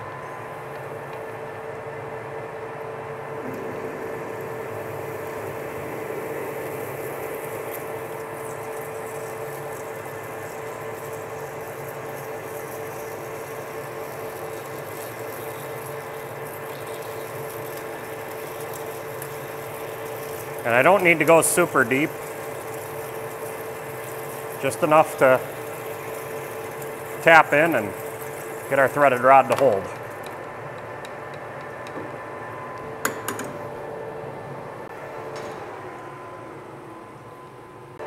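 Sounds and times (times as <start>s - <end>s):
metal lathe hum: 0.0s - 35.0s.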